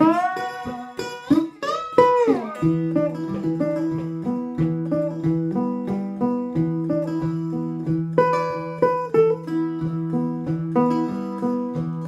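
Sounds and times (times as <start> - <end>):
cigar box guitar blues playing: 0.0 - 12.0.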